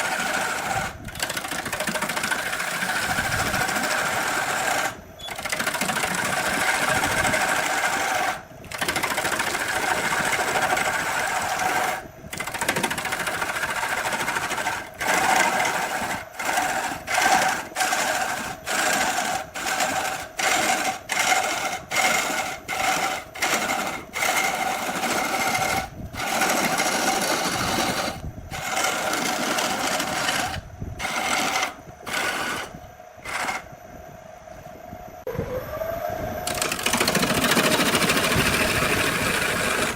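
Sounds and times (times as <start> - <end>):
power tool motor running: 0.0 - 33.7, 36.4 - 39.9.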